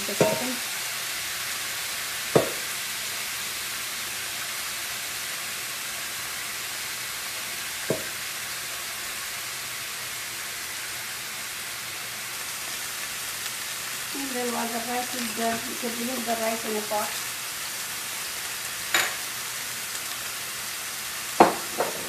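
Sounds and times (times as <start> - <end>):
kebabs sizzling on grill pan: 0.0 - 22.0.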